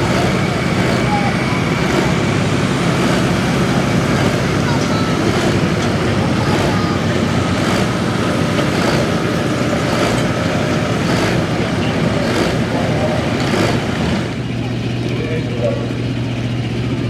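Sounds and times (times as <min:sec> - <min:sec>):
tractor diesel engine at full throttle: 0:00.0 - 0:17.0.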